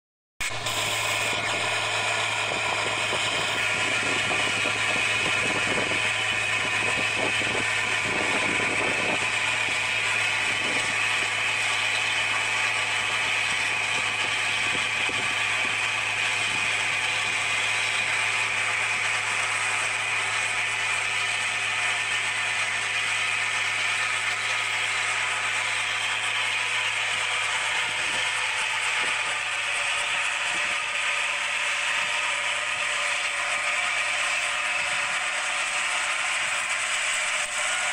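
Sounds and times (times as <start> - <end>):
combine harvester engine drone: 0.4 - 37.9
threshing machinery whirring and rattling: 0.4 - 37.9.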